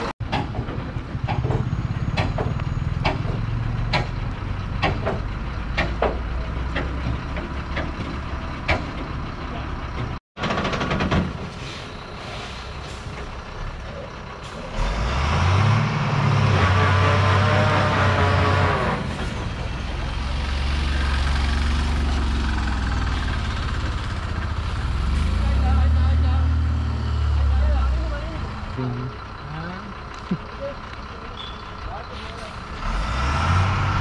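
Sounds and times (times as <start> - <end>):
lorry diesel engine running: 0.0 - 16.1, 16.9 - 32.9.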